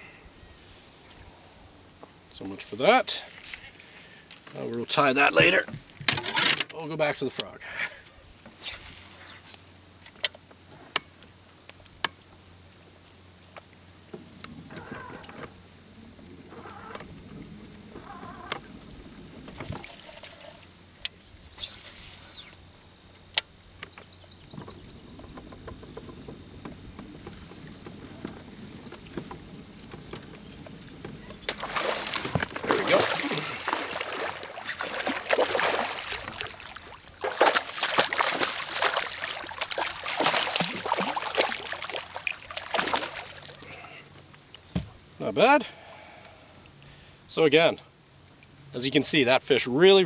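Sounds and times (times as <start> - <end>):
faint steady hum: 0.0 - 48.8.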